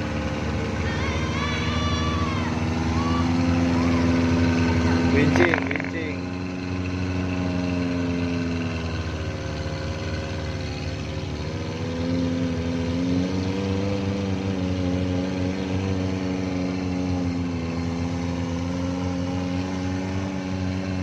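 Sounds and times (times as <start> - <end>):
car engine running at held revs: 0.0 - 21.0.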